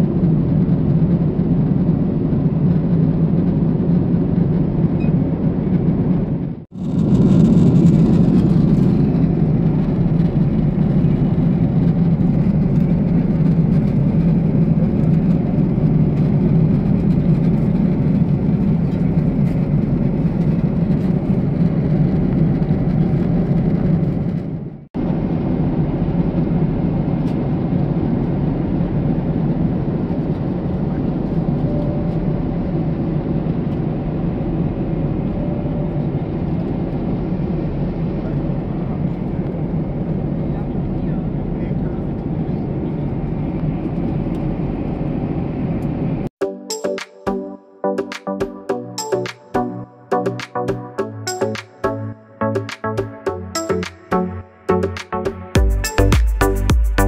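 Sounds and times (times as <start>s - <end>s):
airliner cabin drone: 0.0s - 46.3s.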